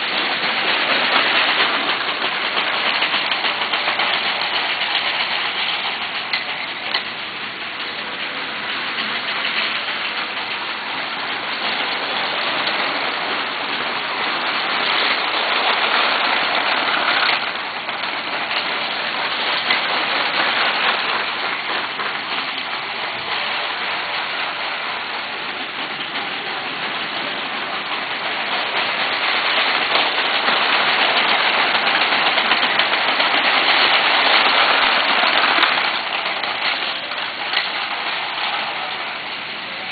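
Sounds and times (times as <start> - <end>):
toy trains rattling on track: 0.0 - 39.9.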